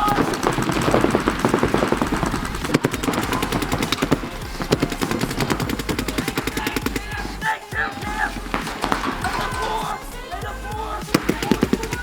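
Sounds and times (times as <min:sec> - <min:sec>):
paintball markers firing: 0:00.0 - 0:10.4, 0:11.0 - 0:12.0.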